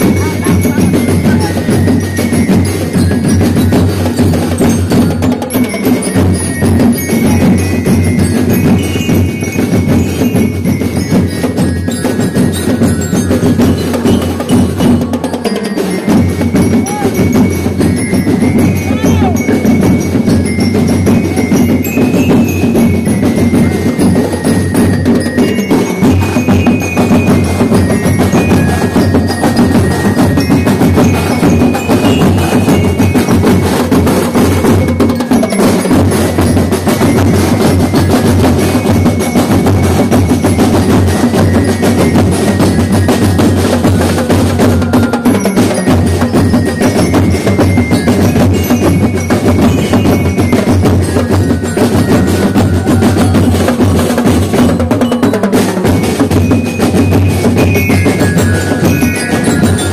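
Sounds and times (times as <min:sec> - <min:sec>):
bell-lyre melody: 0:00.0 - 0:59.9
drums beating: 0:00.0 - 0:59.9.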